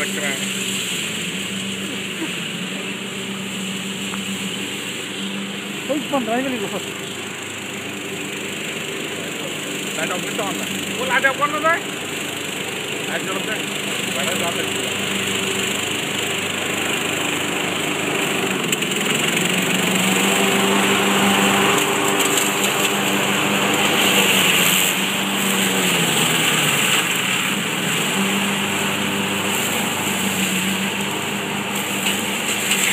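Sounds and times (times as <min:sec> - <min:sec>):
riding lawn mower engine: 0:00.0 - 0:32.9.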